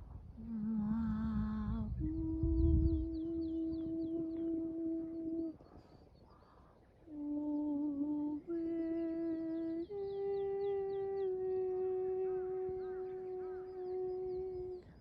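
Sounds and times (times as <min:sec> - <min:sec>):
humming voice holding notes: 0:00.4 - 0:05.7, 0:07.0 - 0:15.0
small birds chirping: 0:00.9 - 0:15.0.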